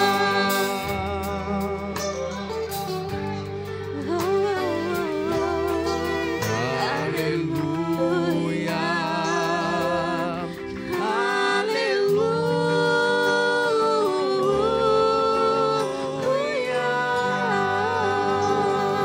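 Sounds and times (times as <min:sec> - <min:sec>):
woman and man singing gospel: 0:00.0 - 0:02.4, 0:04.0 - 0:19.0.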